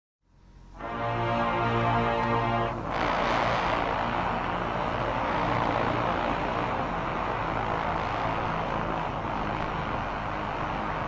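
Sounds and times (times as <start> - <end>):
faint low hum: 0.3 - 11.0
brass horns rushing airy noise: 0.7 - 11.0.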